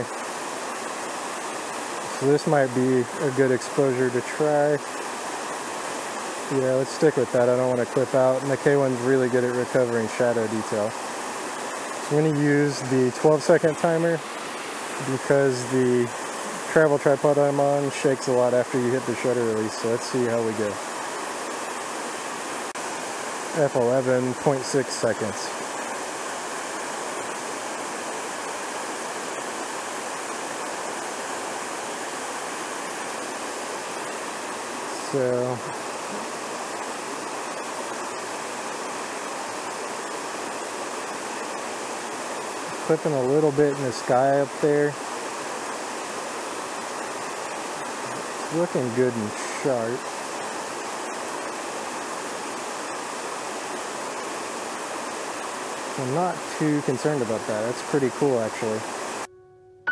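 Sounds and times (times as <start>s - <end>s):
waterfall rushing over rocks: 0.0s - 59.3s.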